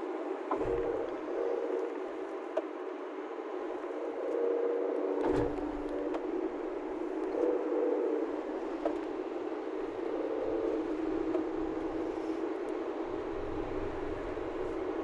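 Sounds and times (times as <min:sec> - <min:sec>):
car humming whine: 0:00.1 - 0:15.0.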